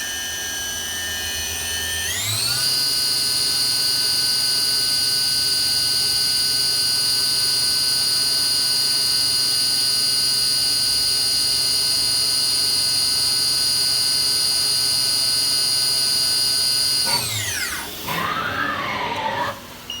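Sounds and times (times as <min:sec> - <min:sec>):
machine spindle whining: 0:00.0 - 0:20.0.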